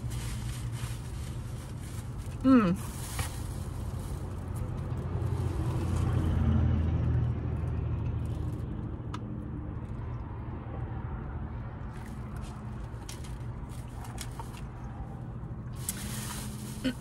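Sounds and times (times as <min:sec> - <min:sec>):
low motor vehicle rumble: 0:00.0 - 0:17.0.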